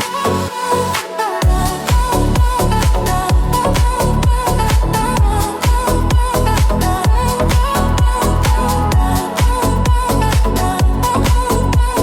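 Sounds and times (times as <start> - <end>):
kick drum: 1.4 - 12.0.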